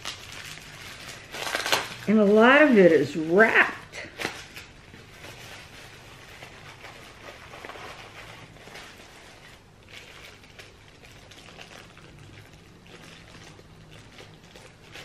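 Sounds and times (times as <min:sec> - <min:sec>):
wrapping rustling and crinkling: 0:00.0 - 0:15.0.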